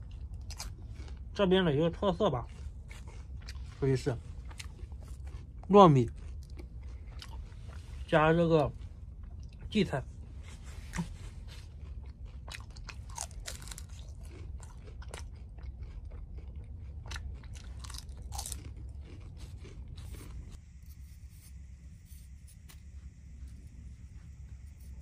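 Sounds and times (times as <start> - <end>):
crunching fried cake: 0.0 - 25.0.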